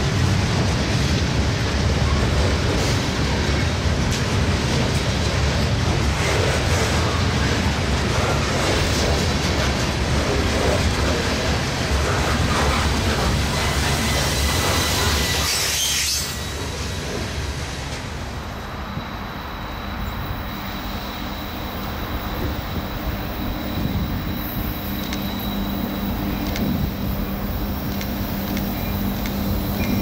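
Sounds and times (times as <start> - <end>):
diesel locomotives approaching: 0.0 - 30.0
hopper cars rolling: 0.0 - 30.0.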